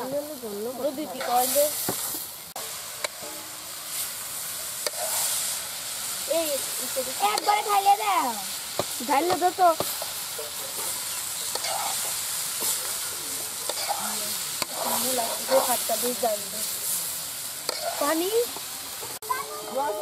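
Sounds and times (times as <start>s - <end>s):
fish curry sizzling in a wok: 0.0s - 20.0s
ladle stirring and scraping: 1.2s - 7.6s, 8.8s - 19.2s.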